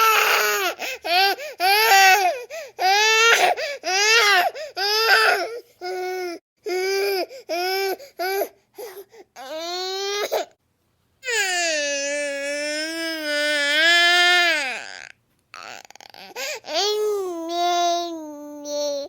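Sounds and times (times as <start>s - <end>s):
baby crying: 0.0s - 10.5s, 11.2s - 19.0s.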